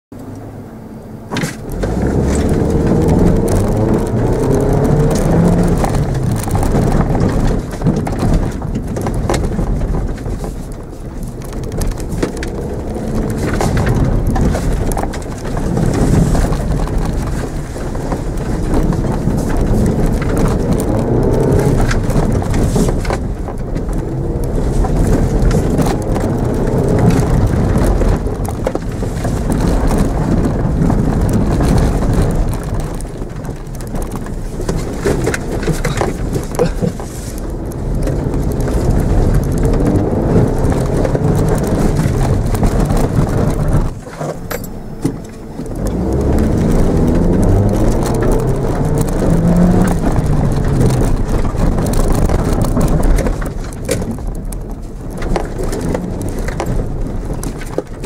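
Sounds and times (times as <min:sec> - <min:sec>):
tyres and body rumbling: 0:00.1 - 0:58.0
car engine revving: 0:00.2 - 0:58.0
knocks and rattles: 0:01.3 - 0:58.0.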